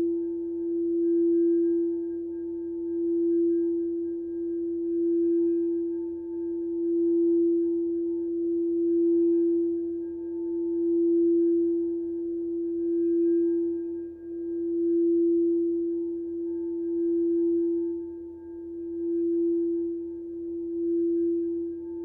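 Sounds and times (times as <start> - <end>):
singing bowl tone: 0.0 - 22.0.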